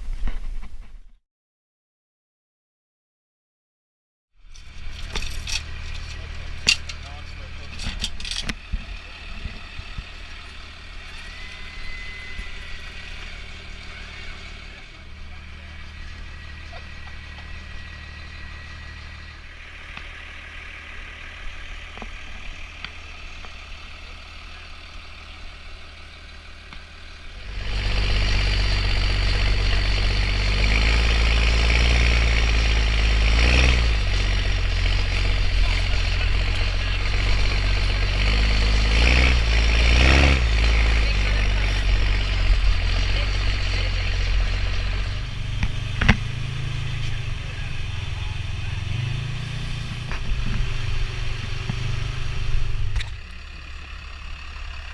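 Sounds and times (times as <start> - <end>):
truck driving off: 4.4 - 54.9
truck engine idling and revving: 4.4 - 54.9.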